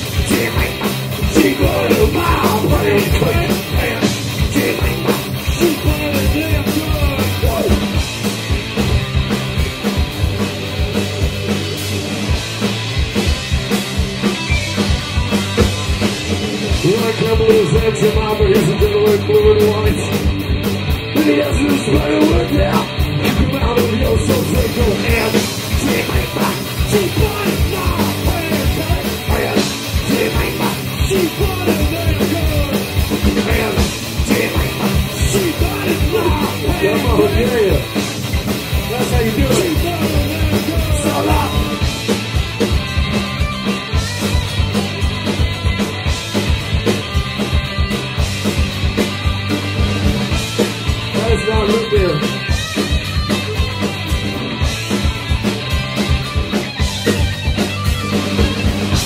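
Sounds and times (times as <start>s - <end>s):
drum kit beat: 0.0s - 59.0s
electric guitar: 0.0s - 59.0s.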